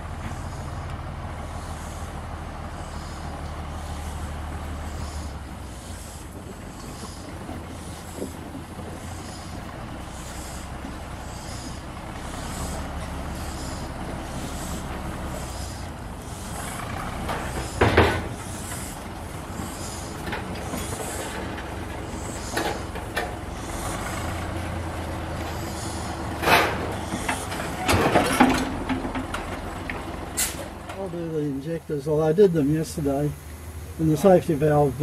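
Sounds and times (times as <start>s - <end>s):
locomotive engine rumble: 0.0s - 35.0s.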